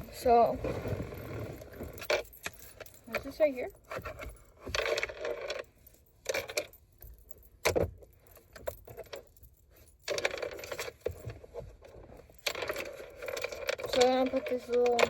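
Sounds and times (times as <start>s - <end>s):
small objects rustling and clinking: 0.0s - 15.0s.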